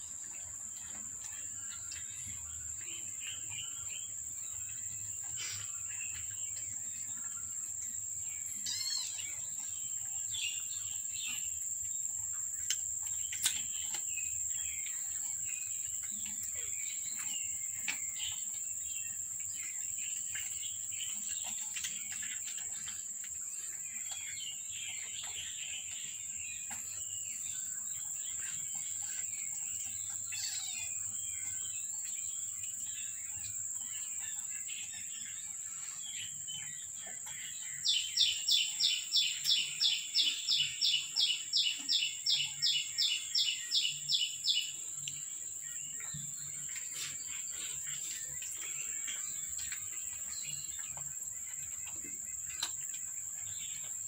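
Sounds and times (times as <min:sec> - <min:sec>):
bird chirps: 0:00.0 - 0:54.0.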